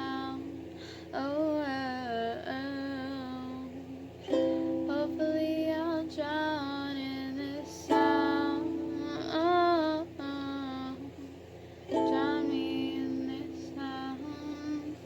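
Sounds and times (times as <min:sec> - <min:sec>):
person singing wordless melody: 0:00.0 - 0:15.0
soft musical accompaniment: 0:02.1 - 0:15.0.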